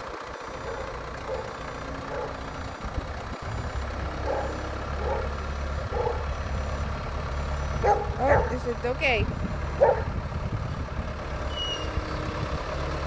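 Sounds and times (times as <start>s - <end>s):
forklift engine rumbling: 0.0s - 13.0s.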